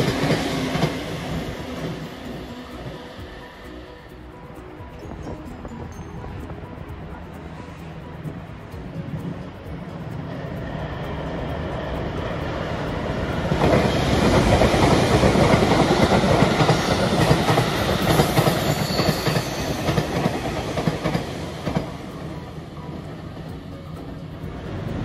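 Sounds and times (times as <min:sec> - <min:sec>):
train passing on rails: 0:00.0 - 0:25.0.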